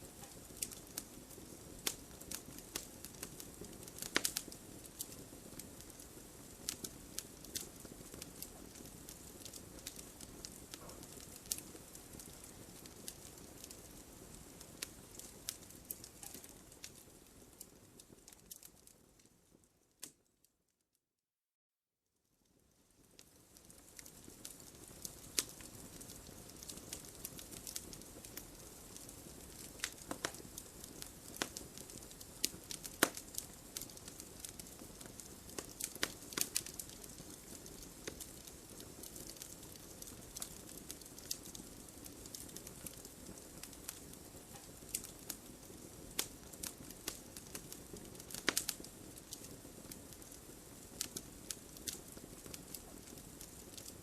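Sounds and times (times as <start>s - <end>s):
wood fire crackling: 0.0s - 20.4s, 22.5s - 54.0s.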